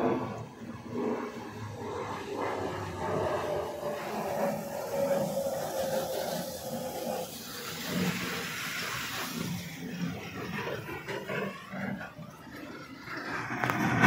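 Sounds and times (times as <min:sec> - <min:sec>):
broad rushing noise: 0:00.0 - 0:14.0
jet engine whine: 0:00.0 - 0:14.0.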